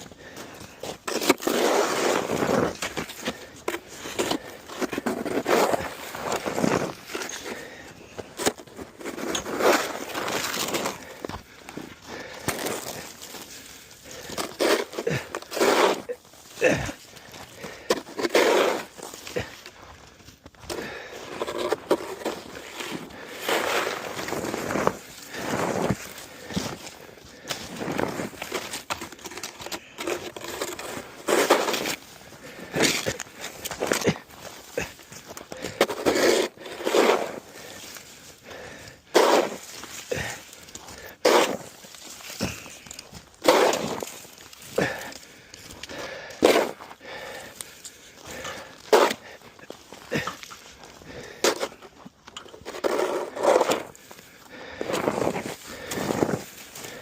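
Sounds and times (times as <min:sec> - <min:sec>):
shovel scraping snow: 0:00.2 - 0:11.4, 0:12.2 - 0:19.6, 0:20.7 - 0:45.1, 0:46.4 - 0:47.6, 0:48.3 - 0:49.4, 0:51.2 - 0:51.9, 0:52.5 - 0:57.0.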